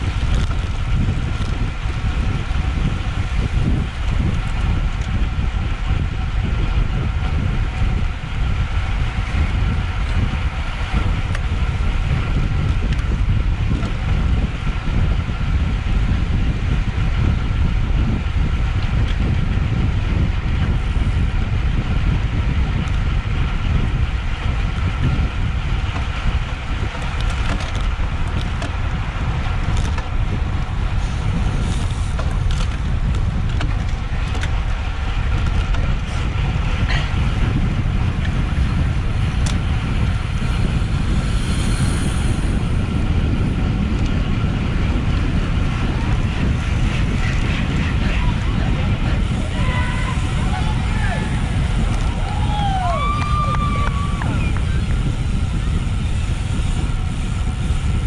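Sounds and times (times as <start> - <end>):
bike tyres humming on road: 0.0 - 58.0
wind buffeting microphone: 0.0 - 58.0.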